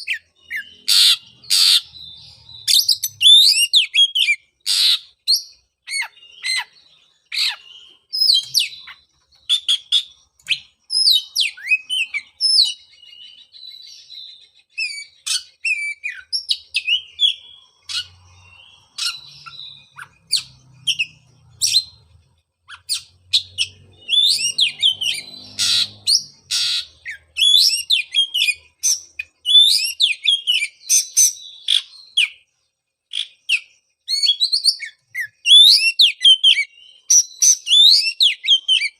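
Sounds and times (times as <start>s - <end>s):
bird singing whistled phrases: 0.0s - 22.0s, 22.7s - 32.4s, 33.1s - 38.9s.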